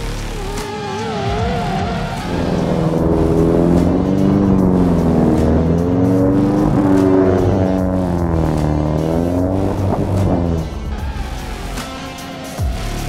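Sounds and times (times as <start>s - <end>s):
background music: 0.0s - 13.0s
race car engine revving: 0.0s - 13.0s.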